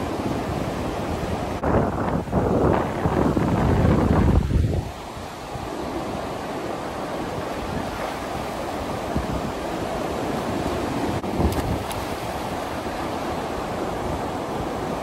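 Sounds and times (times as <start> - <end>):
surf washing up beach: 0.0 - 15.0.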